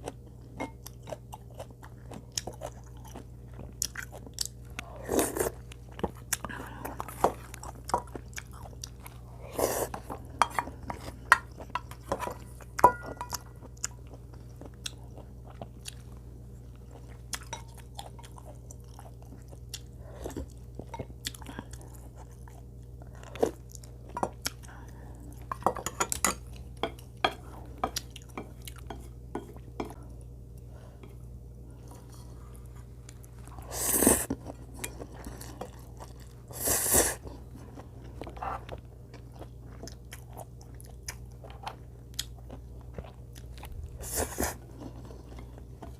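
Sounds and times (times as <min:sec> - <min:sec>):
person chewing and eating: 0:00.0 - 0:45.9.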